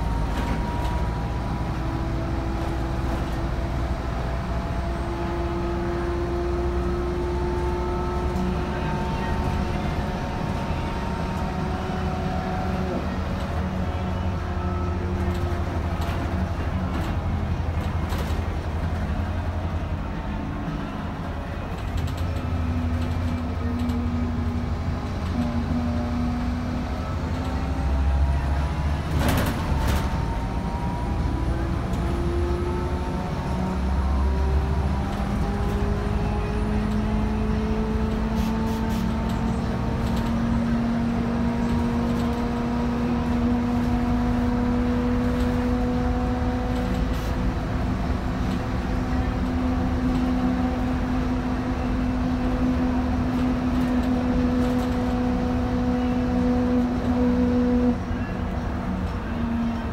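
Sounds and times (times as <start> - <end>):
bus drivetrain whine: 0.0 - 59.9
low engine rumble: 0.0 - 59.9.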